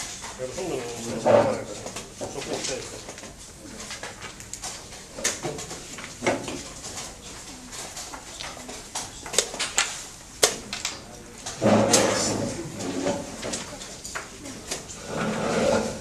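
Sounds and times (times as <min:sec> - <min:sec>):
faint room noise: 0:00.0 - 0:16.0.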